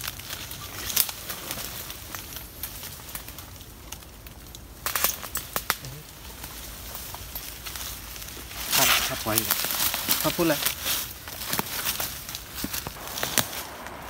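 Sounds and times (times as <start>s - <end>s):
dry leaves and brush crackling: 0.0s - 14.0s
twigs snapping: 0.0s - 14.0s.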